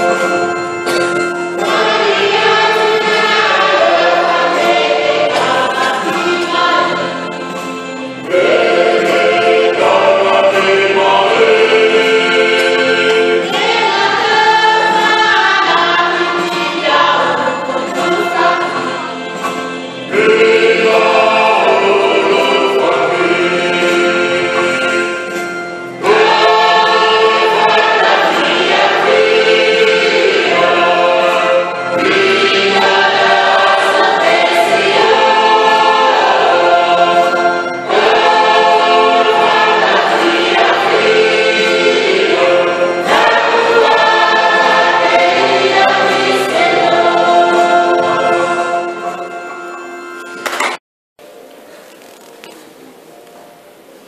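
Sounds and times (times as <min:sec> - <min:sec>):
choir singing a hymn: 0:00.0 - 0:50.3.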